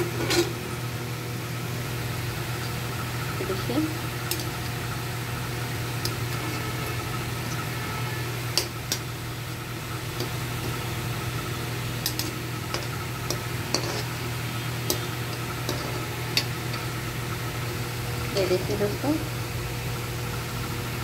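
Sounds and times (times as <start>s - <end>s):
oil sizzling: 0.0s - 21.0s
crackles and pops of frying: 1.8s - 21.0s.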